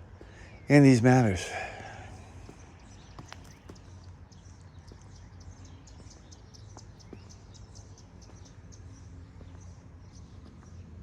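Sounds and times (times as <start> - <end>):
low outdoor background hum: 0.0 - 11.0
small birds chirping: 0.0 - 11.0.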